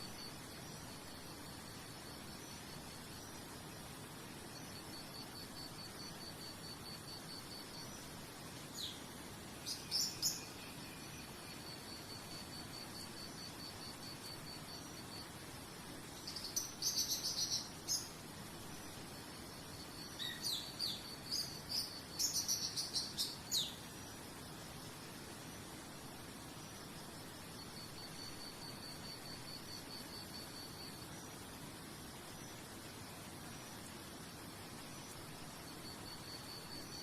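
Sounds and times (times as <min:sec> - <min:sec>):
insect trill: 0:00.0 - 0:37.0
soft hiss: 0:00.0 - 0:37.0.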